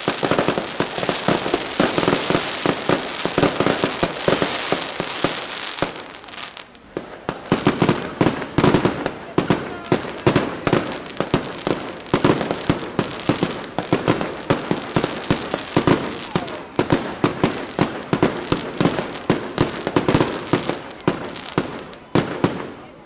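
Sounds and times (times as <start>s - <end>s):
fireworks banging: 0.0s - 22.9s.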